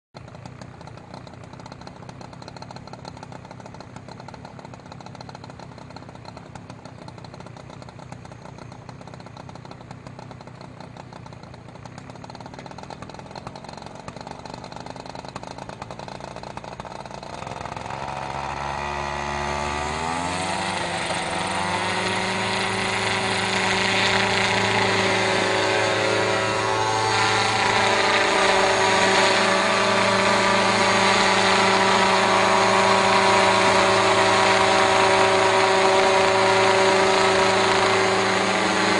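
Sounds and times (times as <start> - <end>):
sprayer motor running: 0.2 - 38.9.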